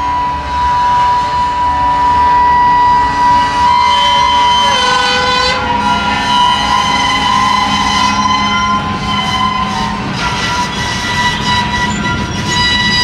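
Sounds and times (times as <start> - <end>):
train wheels squealing on rails: 0.0 - 13.0.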